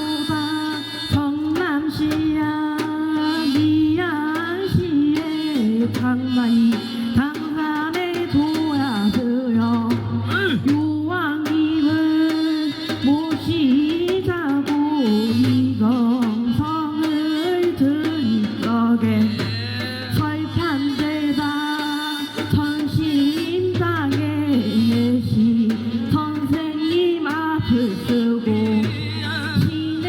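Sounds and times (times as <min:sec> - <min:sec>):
percussion strikes: 0:00.0 - 0:30.0.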